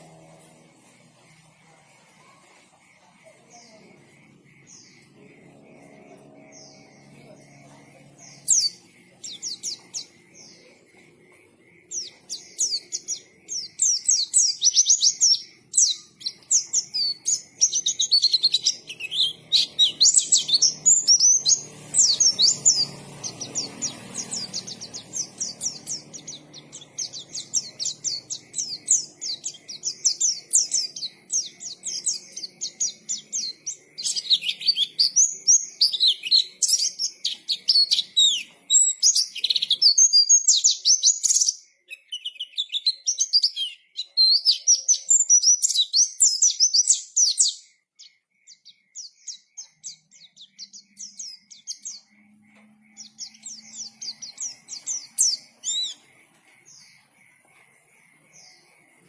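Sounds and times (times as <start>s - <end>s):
bird twittering song: 0.0s - 59.0s.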